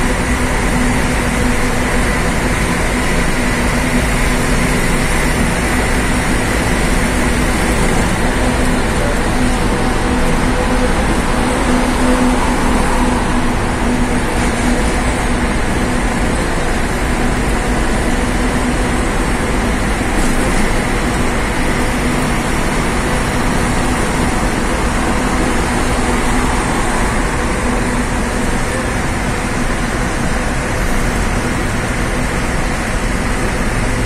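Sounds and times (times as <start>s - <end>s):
road and tyre noise: 0.0s - 34.0s
truck engine running: 0.0s - 34.0s.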